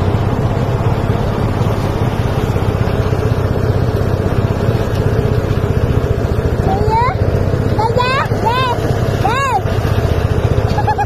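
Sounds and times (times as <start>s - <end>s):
threshing machine engine running: 0.0s - 11.0s.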